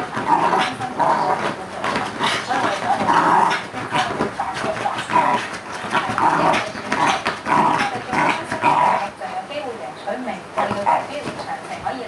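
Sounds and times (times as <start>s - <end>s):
dog scratching leather sofa: 0.0s - 9.2s, 10.6s - 12.0s.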